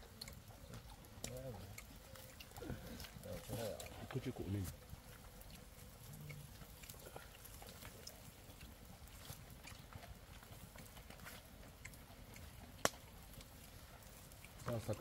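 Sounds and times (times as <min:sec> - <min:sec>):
light ticks and clicks: 0:00.0 - 0:08.8, 0:09.6 - 0:15.0.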